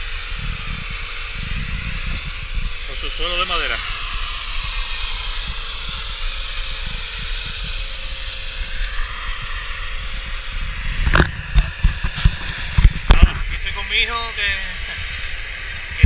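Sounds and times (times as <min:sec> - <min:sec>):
pressure washer motor drone: 0:00.0 - 0:16.0
water spray hissing: 0:00.0 - 0:16.0
wind buffeting microphone: 0:00.0 - 0:16.0.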